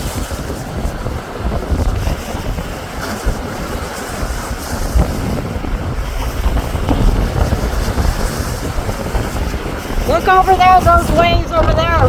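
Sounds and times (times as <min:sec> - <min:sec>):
lake waves washing: 0:00.0 - 0:12.0
wind buffeting microphone: 0:00.0 - 0:12.0.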